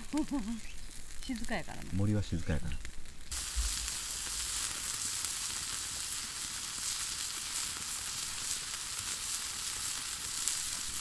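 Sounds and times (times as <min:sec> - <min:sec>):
fire crackles: 0:00.0 - 0:11.0
food sizzling on grill: 0:00.0 - 0:11.0.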